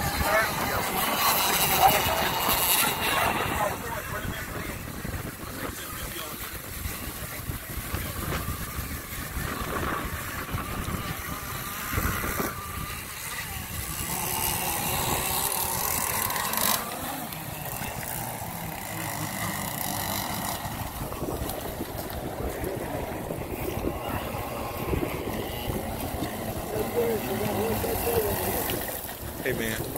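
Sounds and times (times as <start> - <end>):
model boat engines buzzing: 0.0 - 29.9.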